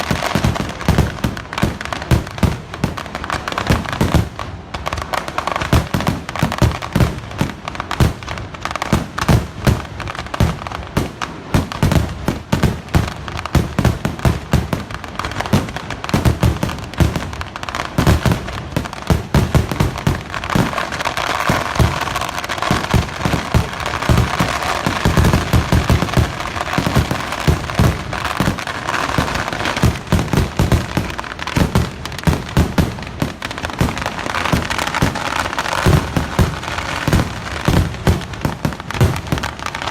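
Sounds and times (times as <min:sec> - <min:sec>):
firecracker bangs: 0:00.0 - 0:39.9
fireworks crackling: 0:00.0 - 0:39.9.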